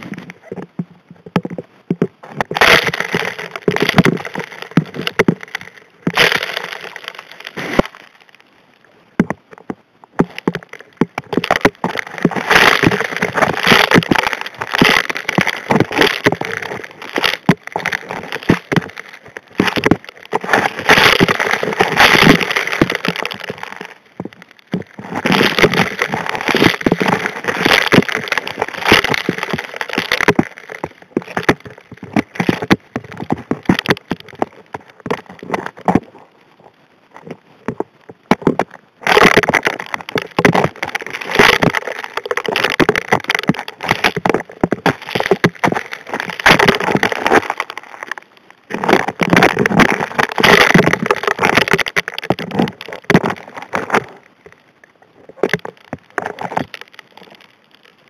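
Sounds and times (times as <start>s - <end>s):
gravel rattling through nozzle underwater: 0.0s - 8.5s, 9.2s - 58.0s.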